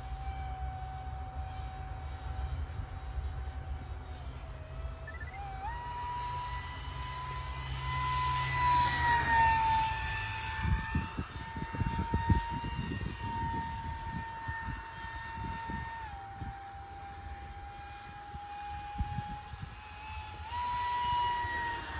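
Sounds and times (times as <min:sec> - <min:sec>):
electric ducted fan whine: 0:00.0 - 0:21.9.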